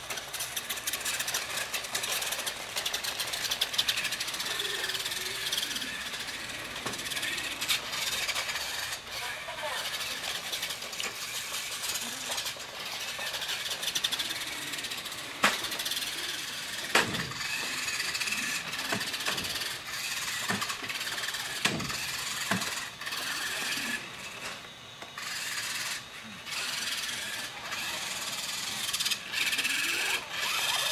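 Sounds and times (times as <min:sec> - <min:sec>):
toy car motor whirring: 0:00.0 - 0:30.9.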